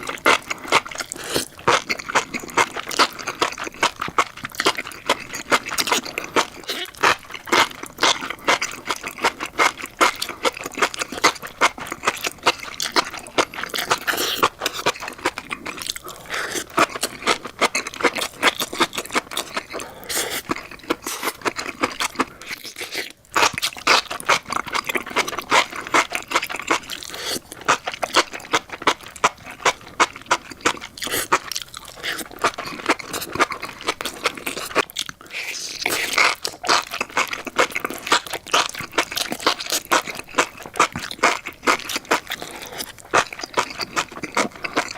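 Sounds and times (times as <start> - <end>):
crunchy chewing: 0.0 - 44.9.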